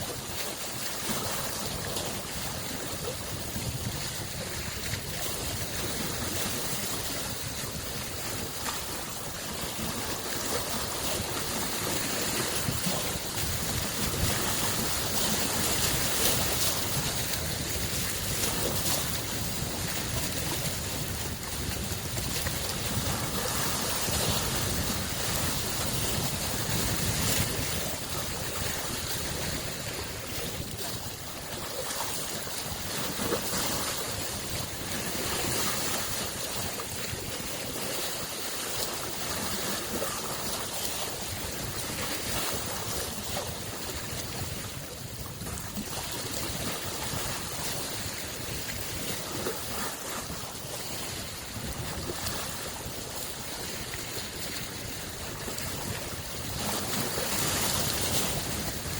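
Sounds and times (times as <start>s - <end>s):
lake waves lapping on shore: 0.0s - 58.9s
wind buffeting microphone: 0.0s - 58.9s.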